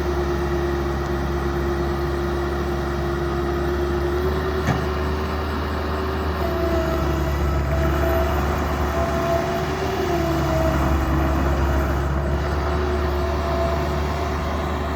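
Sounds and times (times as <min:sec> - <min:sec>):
diesel engine droning: 0:00.0 - 0:14.9.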